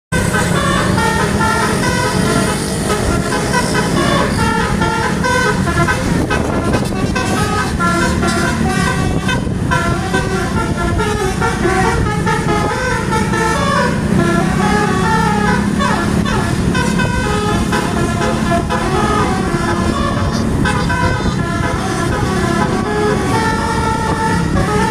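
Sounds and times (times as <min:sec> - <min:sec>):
musical air horn tune: 0:00.1 - 0:24.9
steady low drone: 0:00.2 - 0:24.9.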